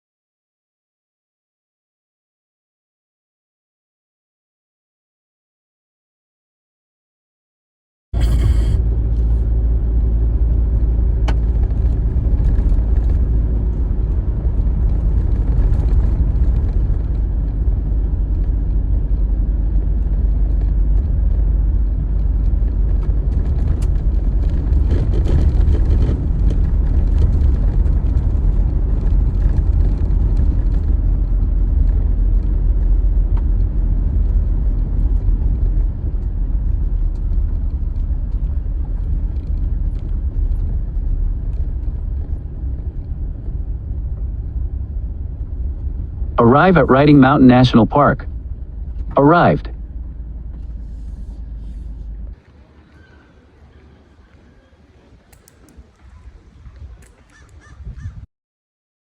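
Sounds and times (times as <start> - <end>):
vehicle engine and road rumble: 8.2 - 58.3.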